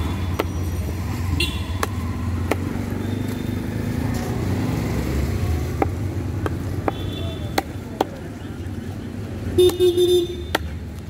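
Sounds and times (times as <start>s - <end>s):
low rumble of vehicle engines: 0.0s - 11.0s.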